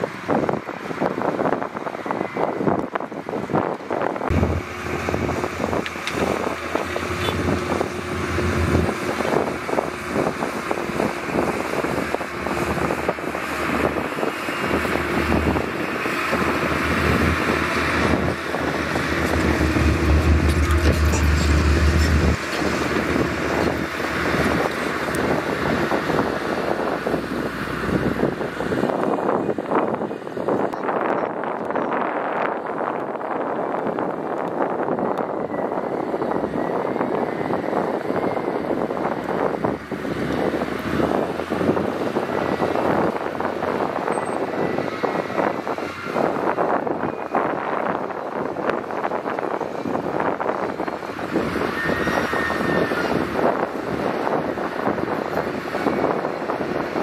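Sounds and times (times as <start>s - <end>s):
low engine hum: 0.0s - 57.0s
wind buffeting microphone: 0.0s - 57.0s.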